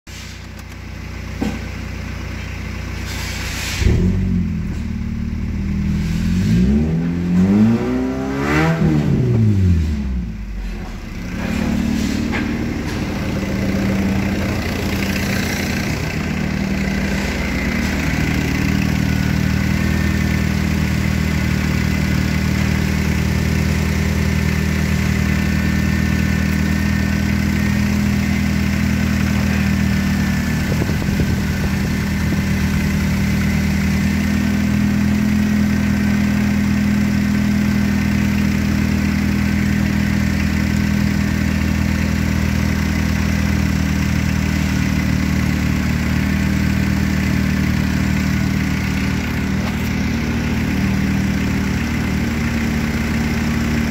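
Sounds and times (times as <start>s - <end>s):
petrol engine idling: 10.3s - 53.9s.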